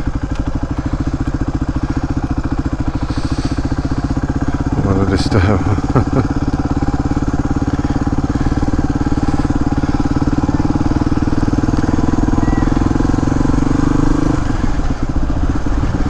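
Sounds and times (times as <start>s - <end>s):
motorcycle engine chugging: 0.0s - 16.0s.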